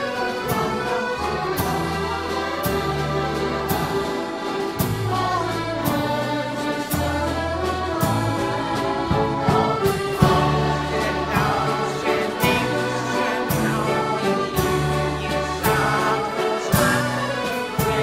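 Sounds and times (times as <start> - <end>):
accordion orchestra playing: 0.0 - 18.0
double bass: 0.0 - 18.0
piano: 0.0 - 18.0.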